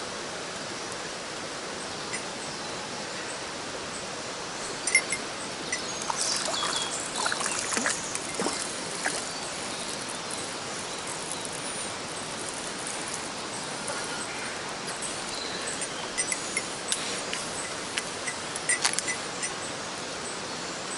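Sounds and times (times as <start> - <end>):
stream water running: 0.0 - 20.9.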